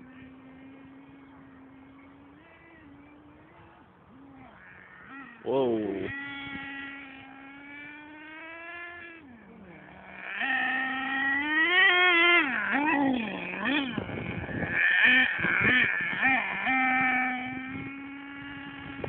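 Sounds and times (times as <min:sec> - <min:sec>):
rc truck engine revving: 0:00.0 - 0:19.0.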